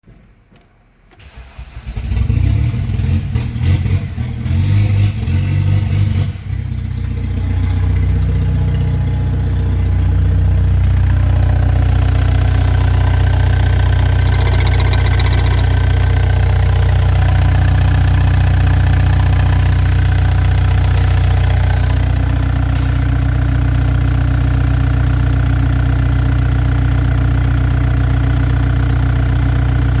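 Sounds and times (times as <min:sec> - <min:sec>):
diesel engine starting and idling: 0:01.1 - 0:30.0.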